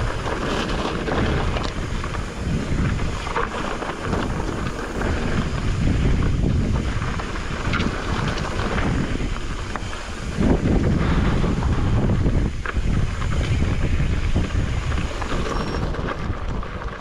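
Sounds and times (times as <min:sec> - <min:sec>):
bike tyres rumbling on gravel: 0:00.0 - 0:17.0
crunches and clatters from bike: 0:00.0 - 0:17.0
wind buffeting microphone: 0:00.0 - 0:17.0.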